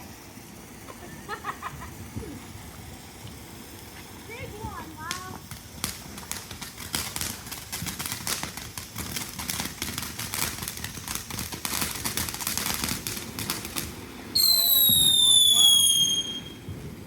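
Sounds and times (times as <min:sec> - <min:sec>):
small firework crackling: 0:00.0 - 0:17.0.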